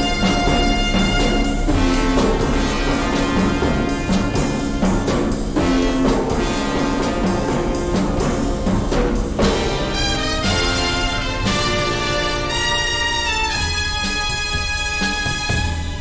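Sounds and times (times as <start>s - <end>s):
orchestral music with brass and timpani: 0.0s - 16.0s.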